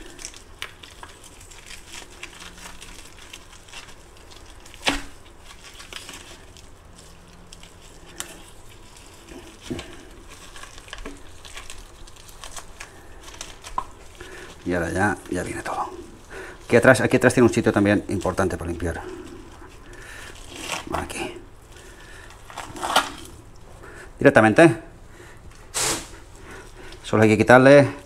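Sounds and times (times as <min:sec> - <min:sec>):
gloved hands tearing fish innards: 0:00.0 - 0:23.6.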